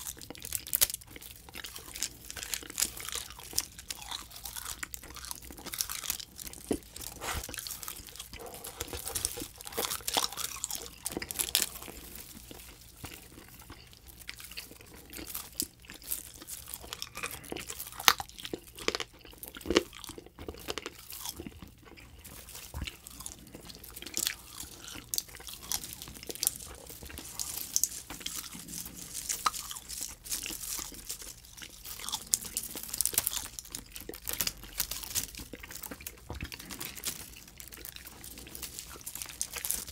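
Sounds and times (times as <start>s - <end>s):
crinkly chewing crunches: 0.0s - 39.9s.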